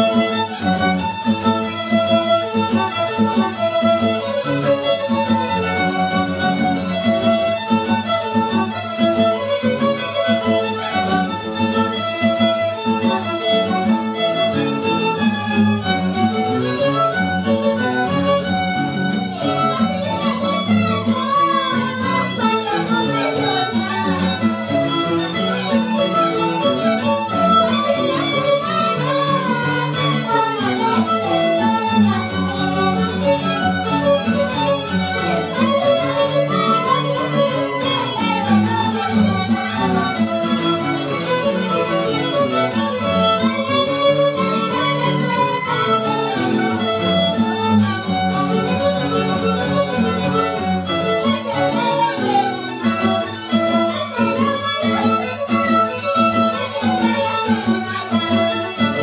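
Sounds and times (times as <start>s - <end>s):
mandolin-like instrument: 0.0s - 59.0s
strummed acoustic guitars: 0.0s - 59.0s
violins playing melody: 0.0s - 59.0s.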